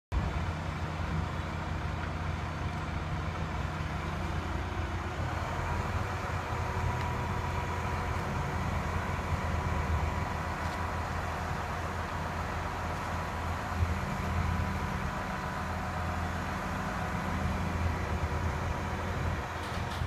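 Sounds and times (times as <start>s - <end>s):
truck engine running: 0.1s - 20.0s.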